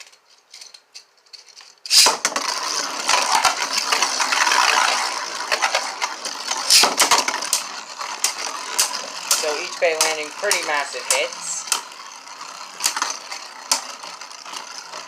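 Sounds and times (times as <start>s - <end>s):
spinning tops grinding: 0.1s - 15.0s
spinning tops clashing: 1.3s - 15.0s.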